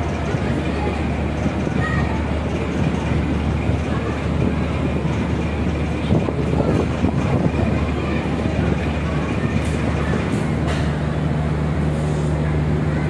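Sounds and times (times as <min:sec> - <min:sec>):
wind noise: 0:00.0 - 0:10.6
ship engine rumbling: 0:00.0 - 0:13.0.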